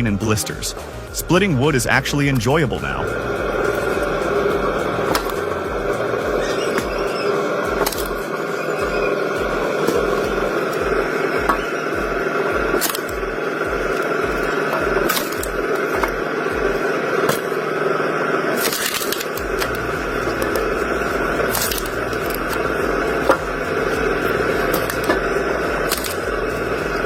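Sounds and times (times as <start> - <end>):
log splitter running: 0.0 - 27.0
wood cracking and splitting: 3.6 - 8.3, 8.9 - 17.6, 18.5 - 27.0.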